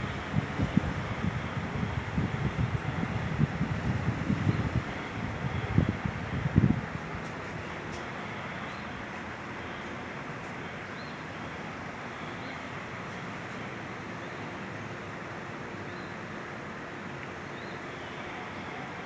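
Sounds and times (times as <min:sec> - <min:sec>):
ceiling fans rushing air: 0:00.0 - 0:19.0.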